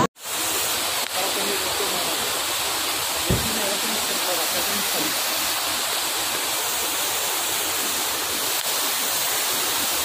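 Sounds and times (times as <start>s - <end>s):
heavy rain: 0.0s - 10.0s
running floodwater: 0.0s - 10.0s.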